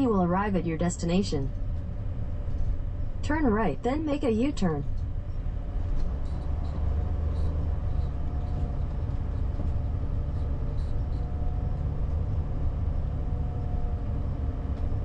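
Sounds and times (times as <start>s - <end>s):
engine rumble: 0.0s - 15.0s
road noise: 1.1s - 15.0s.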